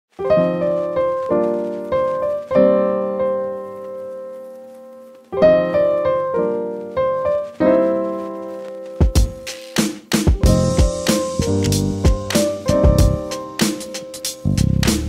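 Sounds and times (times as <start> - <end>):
piano chords: 0.1 - 15.0.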